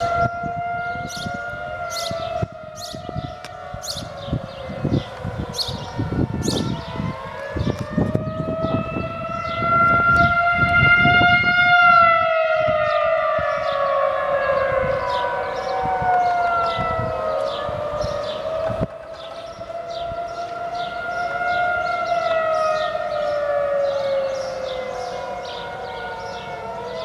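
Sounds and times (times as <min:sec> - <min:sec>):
air-raid siren wailing: 0:00.0 - 0:27.0.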